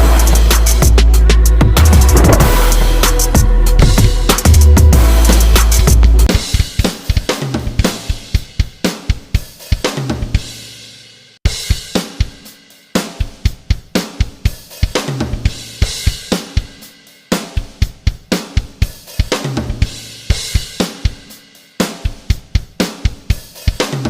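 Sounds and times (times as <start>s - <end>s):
drum kit beat with cymbals: 0.0s - 24.0s.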